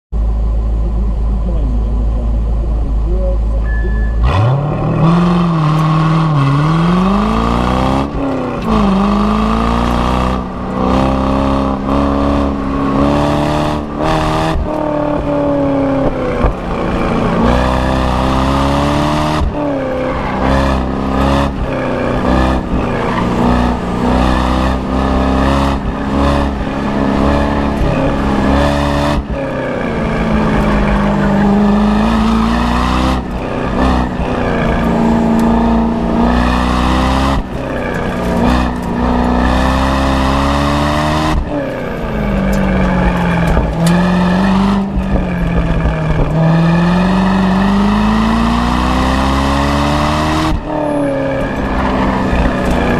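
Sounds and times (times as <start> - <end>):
car engine revving: 0.1 - 52.9.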